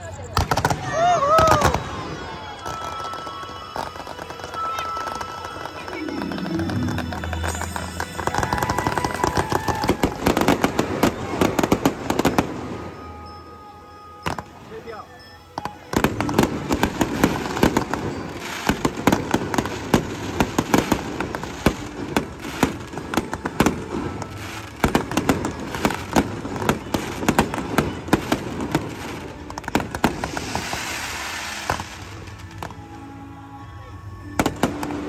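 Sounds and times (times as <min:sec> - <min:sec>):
hissing crackle: 0:00.0 - 0:13.0, 0:14.3 - 0:33.1
fireworks bangs and crackles: 0:00.0 - 0:13.6, 0:14.2 - 0:33.2, 0:34.2 - 0:35.0.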